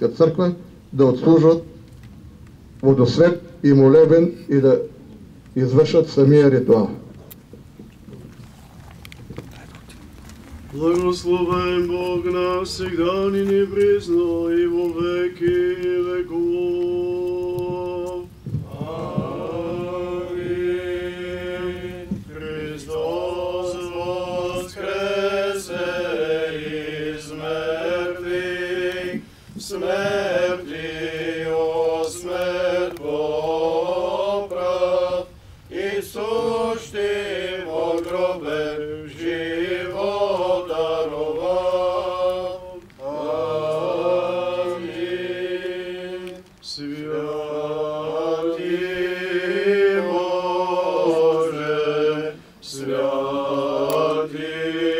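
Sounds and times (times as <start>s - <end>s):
male voices chanting a hymn: 10.7s - 54.9s.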